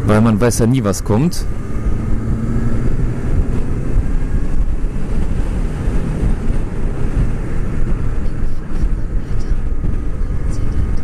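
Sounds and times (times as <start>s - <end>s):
wind rush on microphone: 0.0s - 11.0s.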